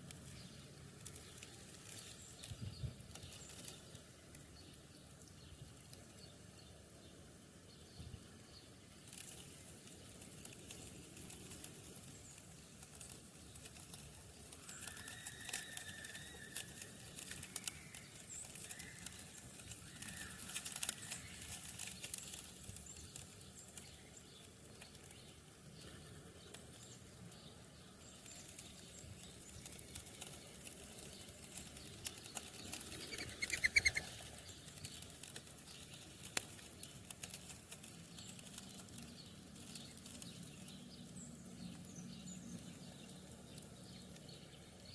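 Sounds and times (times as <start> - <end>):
birds chirping: 0.0 - 44.9
wing flutters: 8.9 - 44.9.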